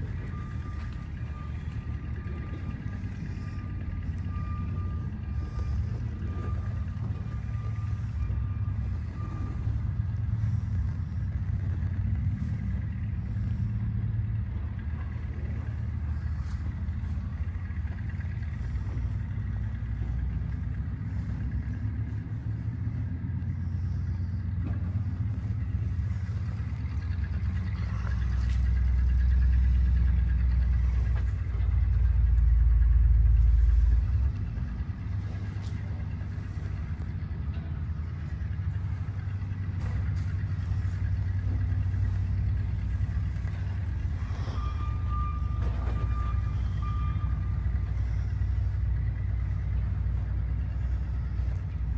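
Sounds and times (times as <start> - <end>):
reversing alarm beeping: 0.0 - 51.8
engine rumbling: 0.0 - 51.9.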